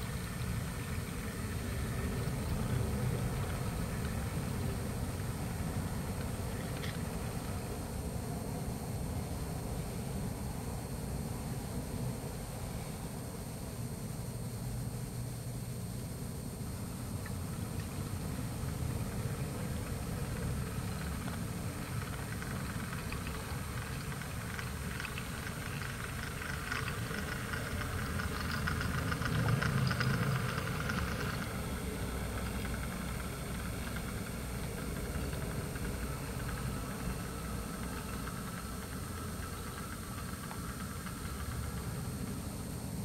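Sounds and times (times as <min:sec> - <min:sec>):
model train running on track: 0:00.0 - 0:14.9, 0:16.5 - 0:43.0.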